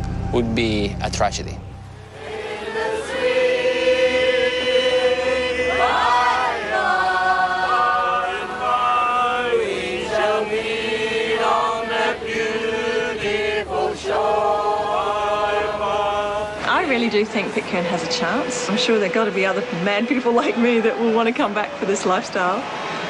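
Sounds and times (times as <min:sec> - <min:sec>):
voices singing together: 0:02.0 - 0:22.8.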